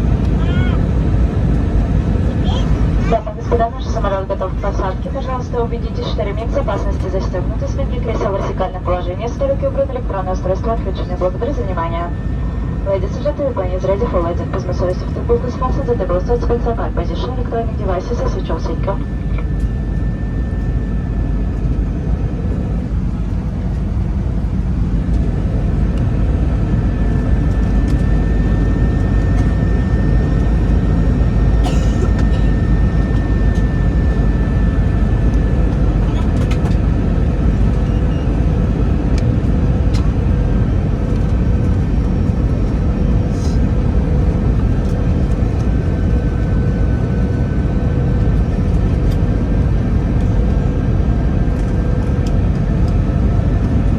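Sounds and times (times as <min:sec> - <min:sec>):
airflow rushing in aircraft cabin: 0:00.0 - 0:53.9
jet engines humming: 0:00.0 - 0:53.9.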